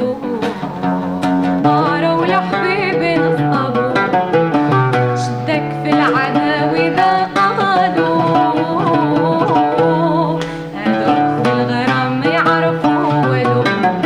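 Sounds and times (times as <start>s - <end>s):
plucked oud notes: 0.0s - 14.0s
woman singing: 0.0s - 14.0s.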